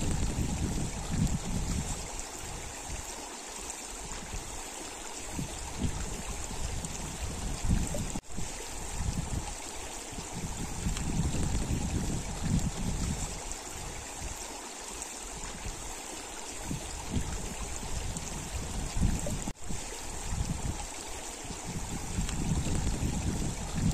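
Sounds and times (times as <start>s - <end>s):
stream running over stones: 0.0s - 23.9s.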